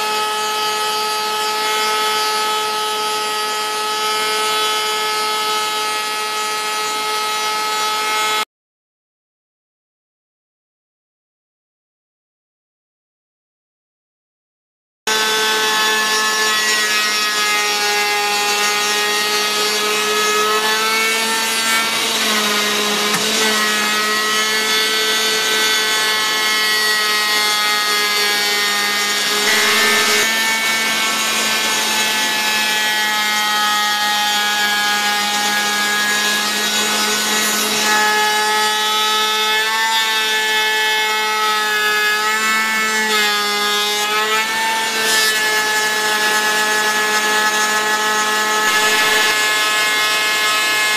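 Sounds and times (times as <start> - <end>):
router spindle cutting wood: 0.0 - 8.5, 15.1 - 50.9.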